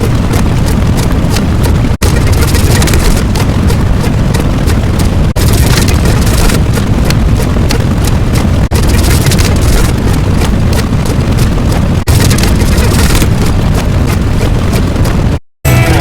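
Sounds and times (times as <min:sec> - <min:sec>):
dense rumbling noise: 0:00.0 - 0:16.0.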